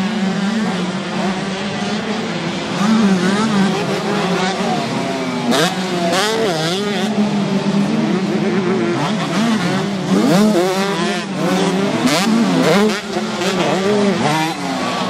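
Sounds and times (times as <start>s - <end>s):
drone of distant bikes: 0.0s - 15.0s
motocross bikes revving: 0.0s - 15.0s.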